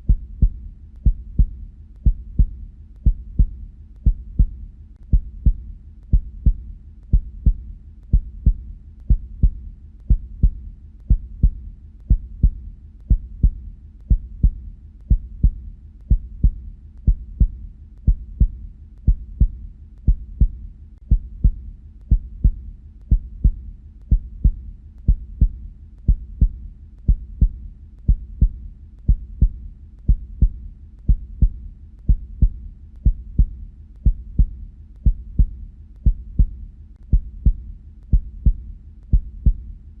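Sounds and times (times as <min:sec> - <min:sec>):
heartbeat thuds: 0:00.0 - 0:39.8.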